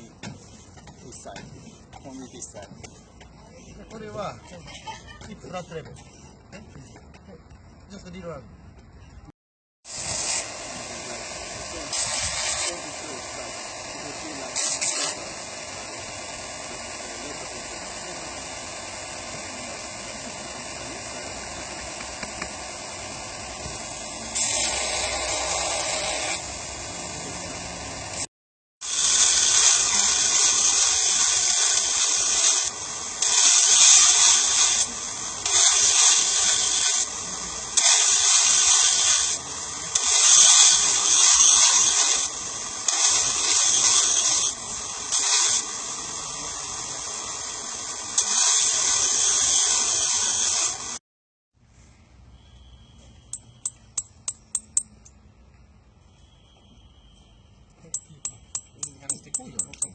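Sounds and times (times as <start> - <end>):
grinder hissing on blade: 0.0 - 6.4, 9.8 - 51.0, 57.9 - 59.9.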